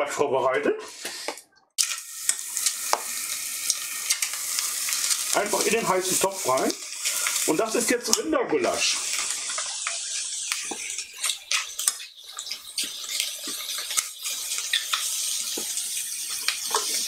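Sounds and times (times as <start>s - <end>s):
meat sizzling in a pot: 1.0s - 17.0s.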